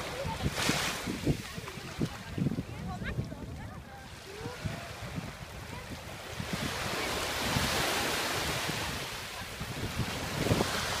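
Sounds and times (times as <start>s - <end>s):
small waves washing on sand: 0.0s - 11.0s
wind buffeting microphone: 0.0s - 11.0s.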